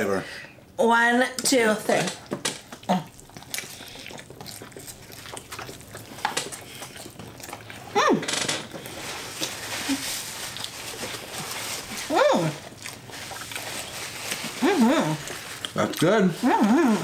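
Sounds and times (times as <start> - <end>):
people chewing wetly: 1.4 - 17.0.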